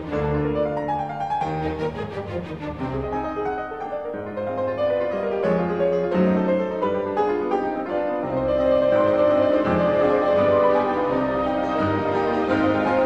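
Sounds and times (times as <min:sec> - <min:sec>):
keyboard instrumental music: 0:02.5 - 0:13.0.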